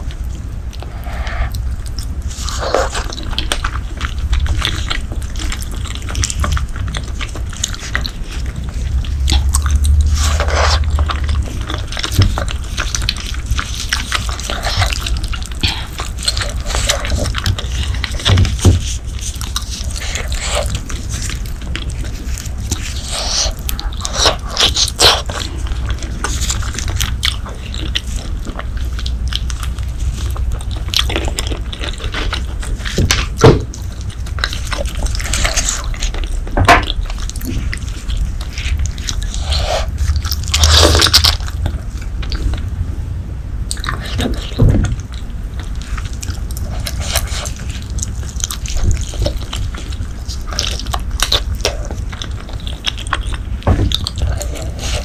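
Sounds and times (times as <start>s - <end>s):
biting and chewing: 0.0s - 55.0s.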